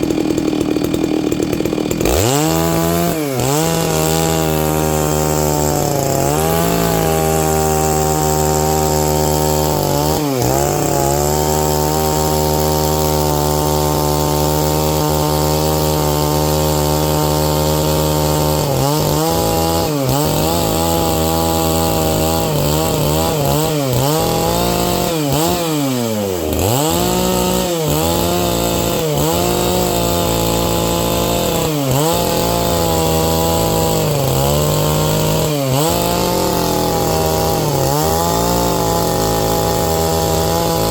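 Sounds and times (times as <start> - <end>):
chainsaw ripping a log: 0.0 - 40.9.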